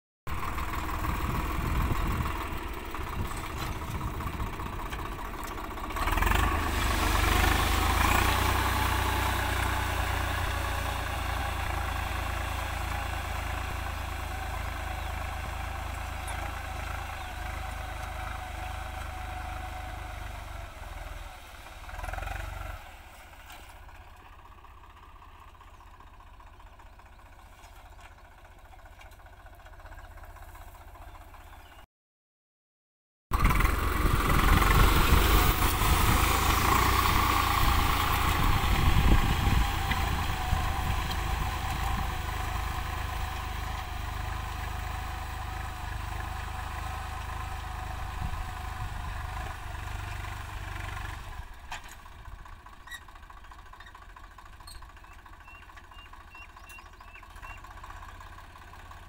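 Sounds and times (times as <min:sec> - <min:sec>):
tractor diesel engine running: 0:00.3 - 0:31.8, 0:33.3 - 0:59.0.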